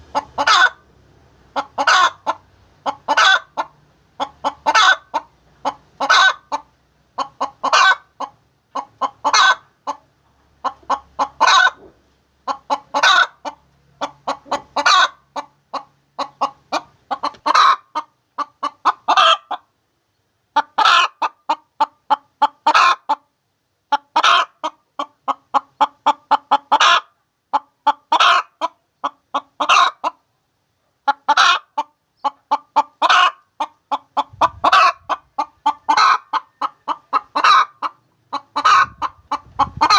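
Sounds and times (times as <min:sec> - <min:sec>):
hen cackling: 0:00.0 - 0:00.9, 0:01.5 - 0:11.9, 0:12.5 - 0:19.7, 0:20.6 - 0:23.3, 0:23.9 - 0:30.2, 0:31.0 - 0:39.9.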